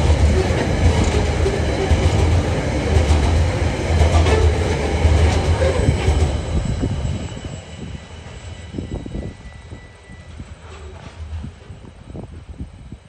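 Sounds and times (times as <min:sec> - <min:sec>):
freight wagons rumbling on rails: 0:00.0 - 0:13.0.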